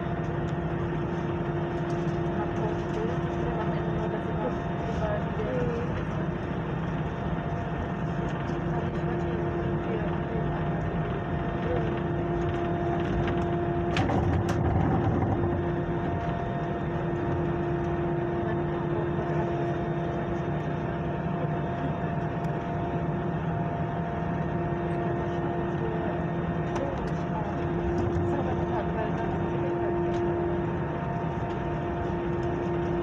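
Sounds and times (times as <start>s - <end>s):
jet engines humming: 0.0s - 33.0s.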